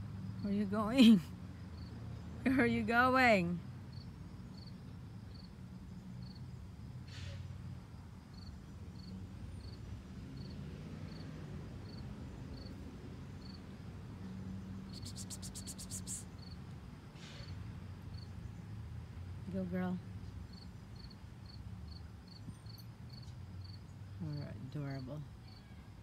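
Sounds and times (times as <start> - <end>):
insect chirping: 0.0 - 16.8, 17.4 - 19.3, 20.5 - 26.0.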